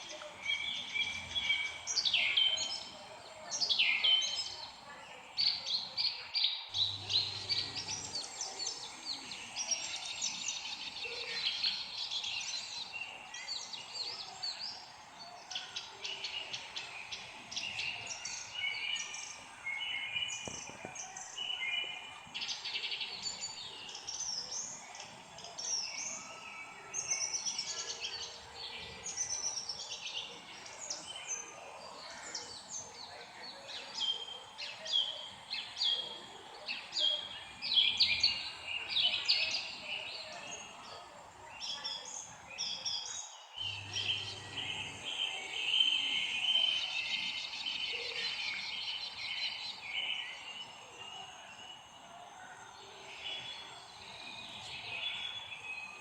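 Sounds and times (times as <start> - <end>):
faint background noise: 0.0 - 56.0
songbirds chirping and singing: 0.0 - 56.0.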